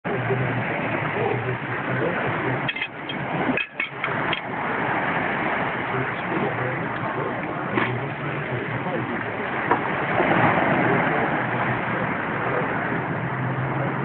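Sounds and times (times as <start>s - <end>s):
low hum: 0.0s - 14.0s
wind on microphone: 0.0s - 14.0s.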